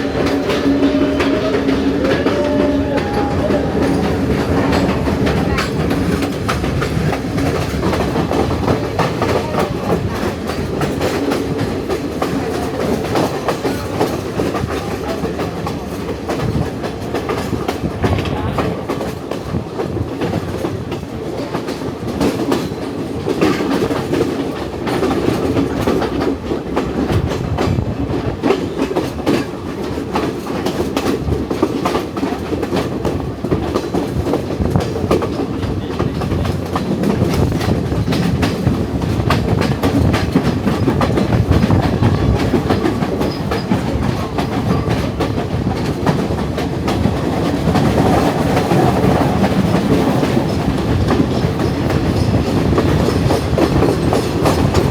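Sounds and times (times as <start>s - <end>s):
wheels clattering over rails: 0.0s - 19.5s, 21.6s - 54.9s
train carriage rumble: 0.0s - 54.9s.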